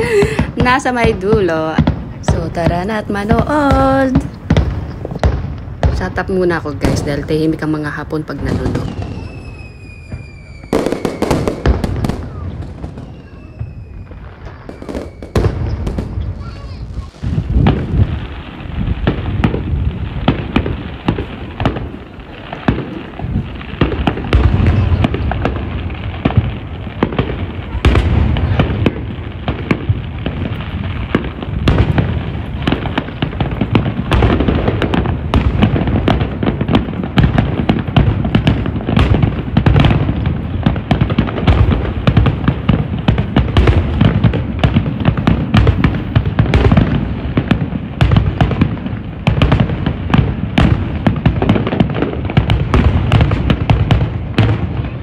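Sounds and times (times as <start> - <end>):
deep firework booms: 0.0 - 55.0
firework bangs and crackles: 0.0 - 55.0.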